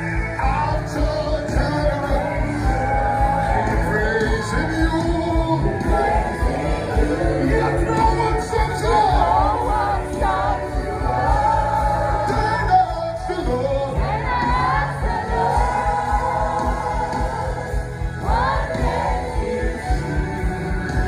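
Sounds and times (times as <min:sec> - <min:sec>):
choir-like singing voices: 0:00.0 - 0:21.0.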